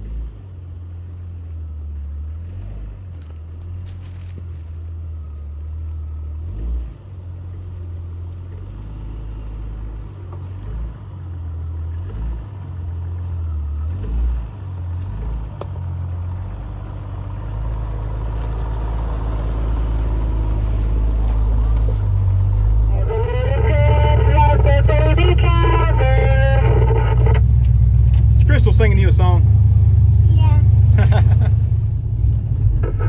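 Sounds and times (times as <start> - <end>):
engine running under load: 0.0 - 33.0.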